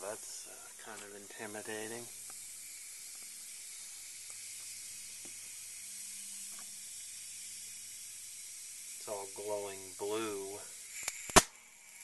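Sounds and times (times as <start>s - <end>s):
high-voltage hiss: 0.0s - 12.0s.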